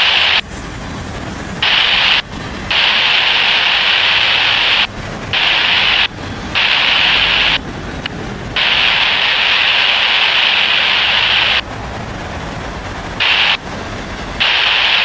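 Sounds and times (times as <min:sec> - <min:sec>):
scanner radio static hissing: 0:00.0 - 0:00.6, 0:01.3 - 0:11.7, 0:13.1 - 0:15.0
freight train rumbling: 0:00.0 - 0:15.0.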